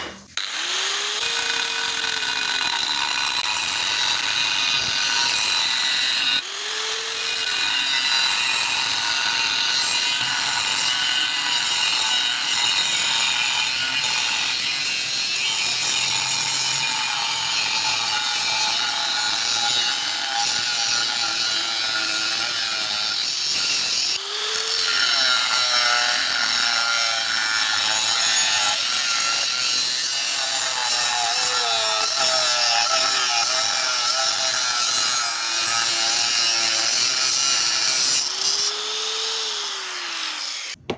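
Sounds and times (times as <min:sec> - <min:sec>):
angle grinder cutting: 0:00.0 - 0:40.9.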